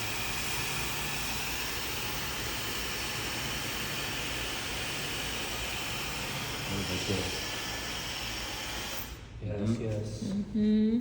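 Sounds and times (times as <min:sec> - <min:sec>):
hair dryer running: 0:00.0 - 0:09.2.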